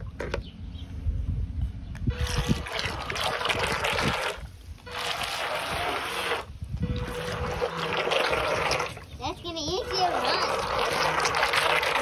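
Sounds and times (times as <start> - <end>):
propellers splashing pool water: 2.1 - 12.0.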